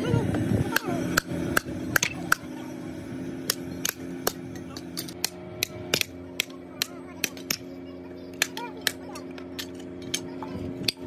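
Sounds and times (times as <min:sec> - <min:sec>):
low hum: 0:00.0 - 0:11.0
hammer striking metal: 0:00.8 - 0:02.6, 0:03.4 - 0:11.0.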